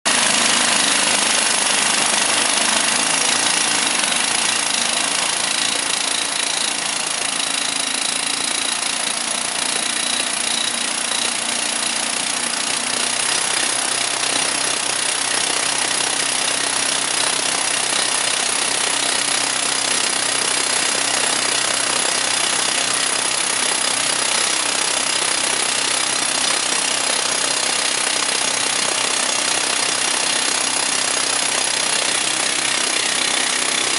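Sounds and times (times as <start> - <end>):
rock drill hammering into concrete: 0.1 - 33.9.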